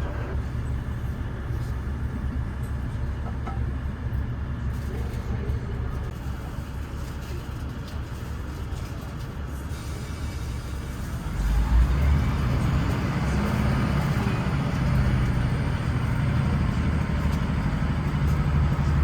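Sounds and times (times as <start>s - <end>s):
diesel train rumble: 0.0s - 19.0s.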